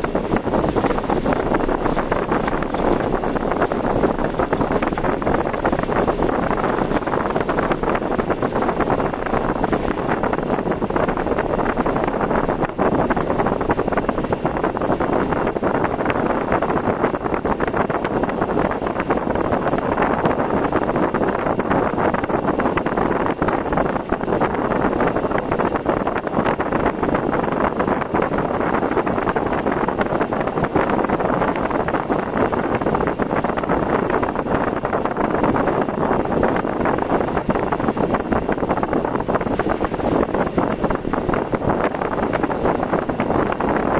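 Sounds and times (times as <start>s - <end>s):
storm wind and rain rushing: 0.0s - 43.9s.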